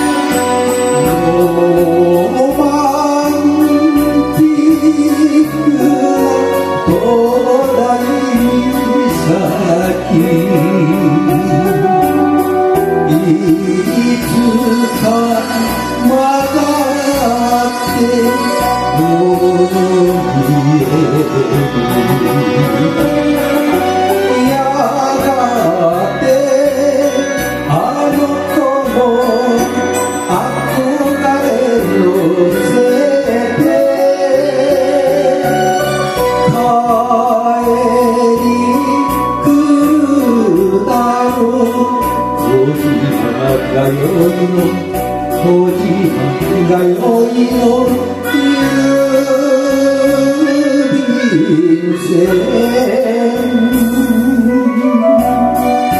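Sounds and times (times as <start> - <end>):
karaoke backing track: 0.0 - 55.9
person singing into a microphone: 0.0 - 55.9.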